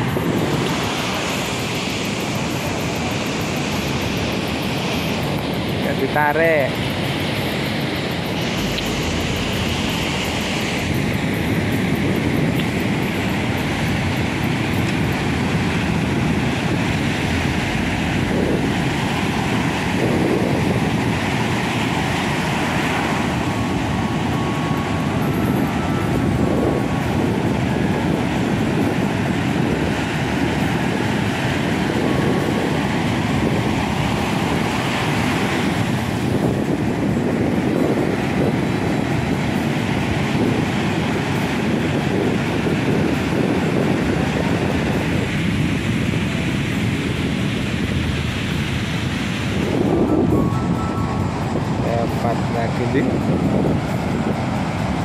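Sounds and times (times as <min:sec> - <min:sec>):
ocean surf on a beach: 0:00.0 - 0:55.0
wind blowing on microphone: 0:00.0 - 0:55.0.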